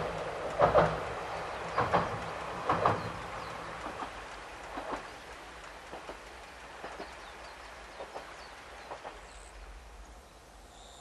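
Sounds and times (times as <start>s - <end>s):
wheels knocking over rail joints: 0.0s - 9.2s
distant diesel railcar: 0.0s - 11.0s
outdoor background noise: 0.0s - 11.0s.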